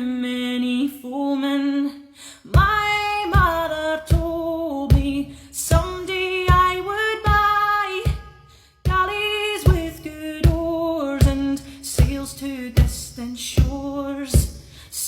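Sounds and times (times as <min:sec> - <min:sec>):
woman singing slow melody: 0:00.0 - 0:15.0
steady drum beat: 0:02.6 - 0:15.0.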